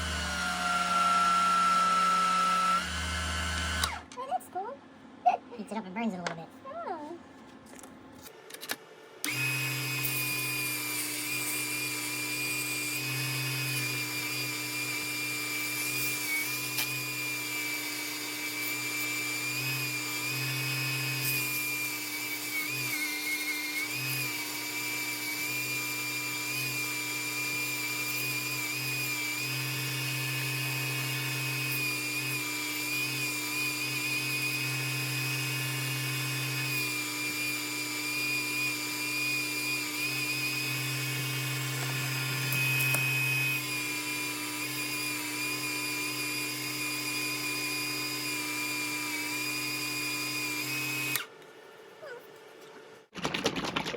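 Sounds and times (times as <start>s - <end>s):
wood lathe motor whine: 0.0s - 4.0s, 9.2s - 51.3s.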